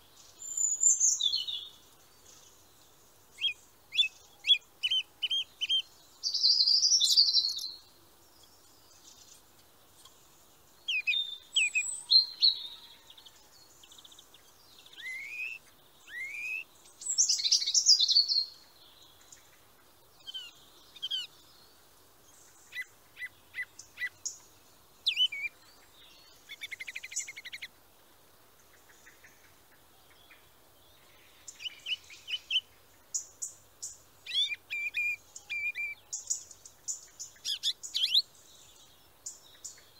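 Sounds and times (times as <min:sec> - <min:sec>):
songbirds chirping and singing: 0:00.0 - 0:27.8, 0:28.5 - 0:39.9.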